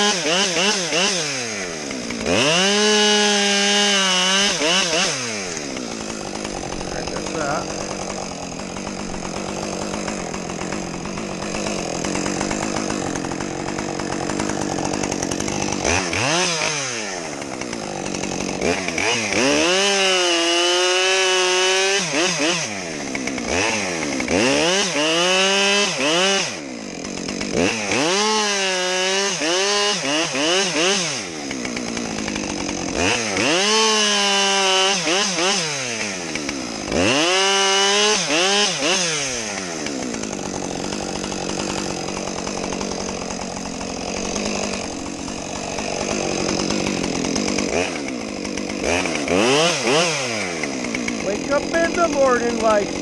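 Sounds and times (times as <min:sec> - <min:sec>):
chainsaw revving and cutting wood: 0:00.0 - 0:53.0.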